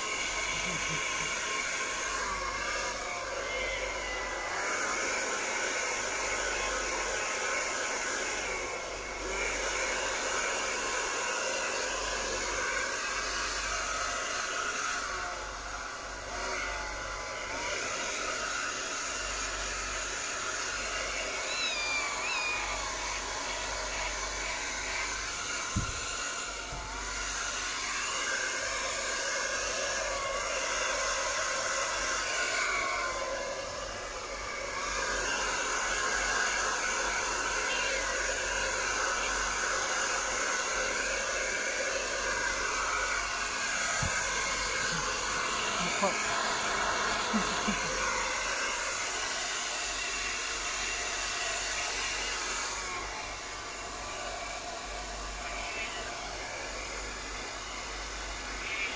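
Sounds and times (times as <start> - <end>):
hair dryer blowing: 0.0 - 58.9.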